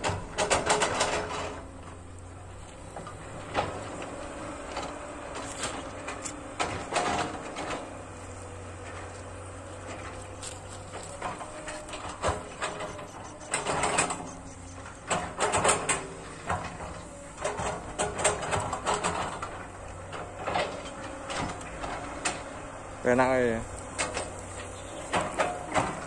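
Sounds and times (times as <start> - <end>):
sharp knocks and clatters: 0.0 - 22.6, 23.8 - 26.0
distant diesel engine drone: 0.0 - 26.0.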